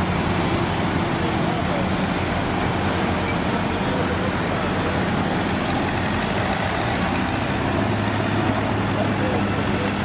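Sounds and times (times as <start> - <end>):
heavy vehicle engine humming: 0.0 - 10.0.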